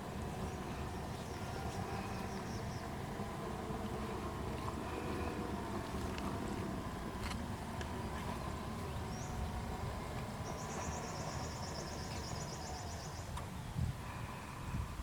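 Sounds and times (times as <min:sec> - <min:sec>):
low rumble with wavering tone: 0:00.0 - 0:15.0.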